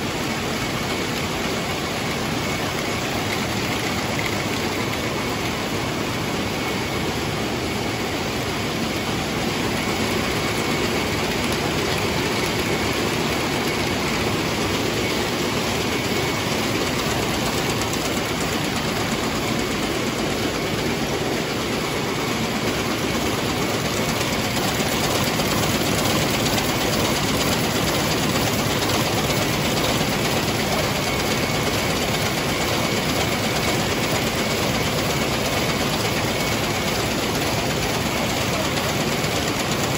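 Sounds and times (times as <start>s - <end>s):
weaving looms running: 0.0s - 39.9s.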